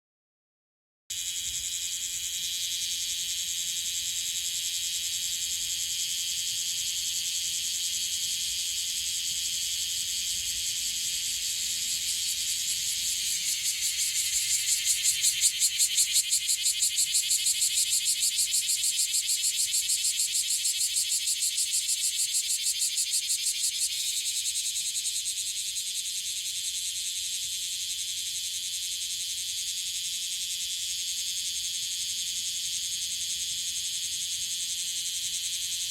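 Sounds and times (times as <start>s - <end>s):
cicada buzzing: 1.1s - 33.2s.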